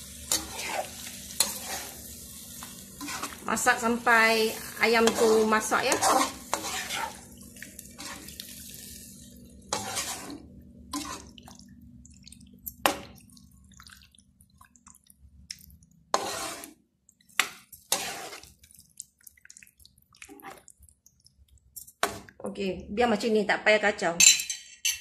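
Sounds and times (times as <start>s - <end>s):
spatula scraping and sloshing gravy: 0.1s - 3.5s, 4.5s - 22.4s.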